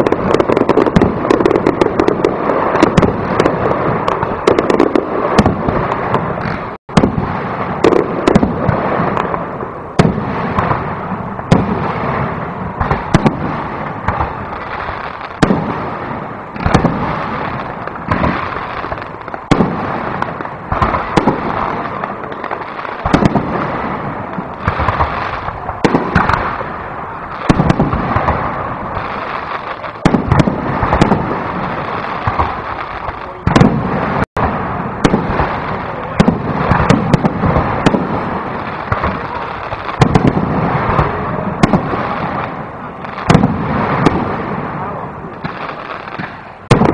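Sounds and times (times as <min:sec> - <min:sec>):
firework shells bursting: 0:00.0 - 0:46.9
fireworks crackling: 0:00.0 - 0:46.9.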